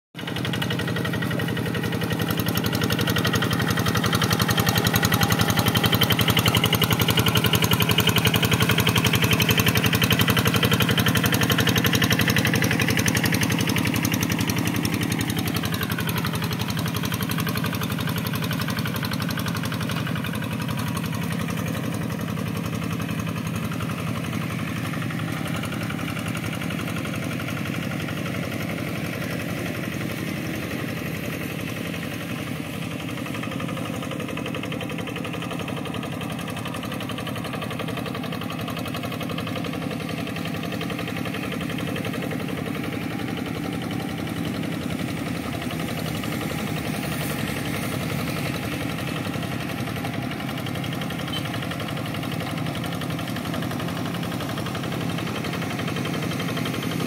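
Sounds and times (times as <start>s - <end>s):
hand tractor diesel engine chugging: 0.2s - 57.0s.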